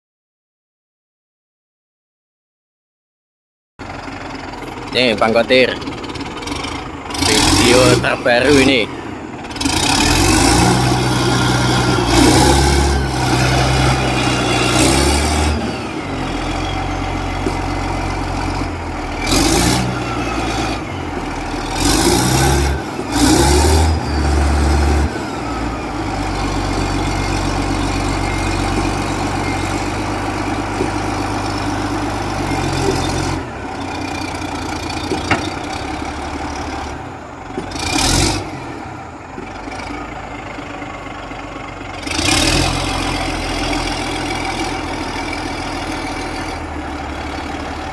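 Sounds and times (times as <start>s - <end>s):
bulldozer diesel engine running: 3.8s - 47.9s.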